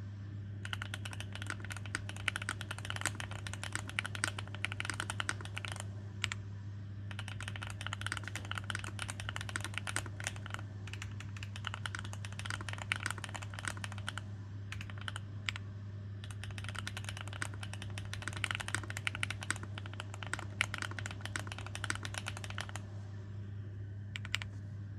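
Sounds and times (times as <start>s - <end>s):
steady low hum: 0.0s - 24.9s
mechanical keyboard typing: 0.6s - 6.4s, 7.1s - 15.6s, 16.2s - 22.8s, 24.2s - 24.5s.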